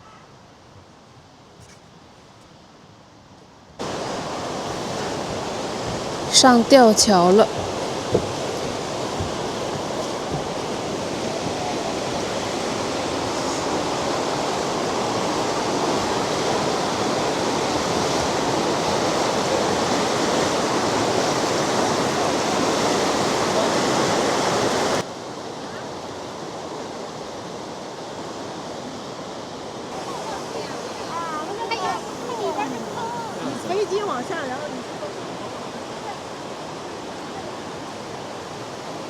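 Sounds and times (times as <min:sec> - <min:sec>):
river water rushing: 0:03.8 - 0:39.0.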